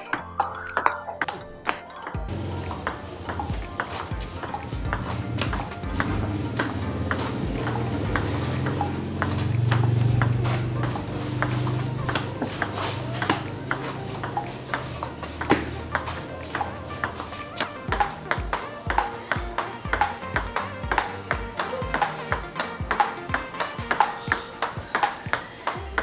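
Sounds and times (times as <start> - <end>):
background music: 0.0 - 26.0
table tennis ball clicks: 0.0 - 26.0.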